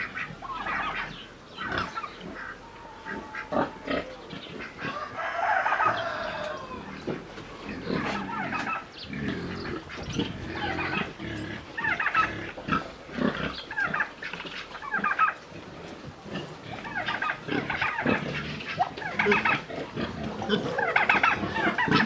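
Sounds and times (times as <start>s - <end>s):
chickens calling: 0.0s - 22.0s
pigs calling: 0.0s - 22.0s.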